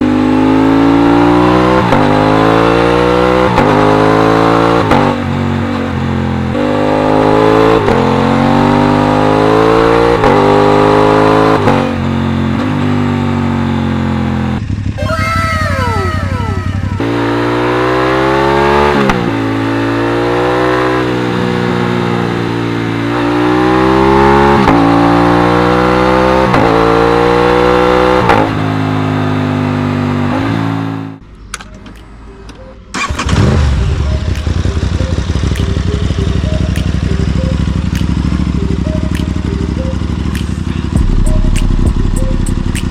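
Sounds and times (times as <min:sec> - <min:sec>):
motorcycle engine accelerating: 0:00.0 - 0:31.2, 0:32.9 - 0:42.9.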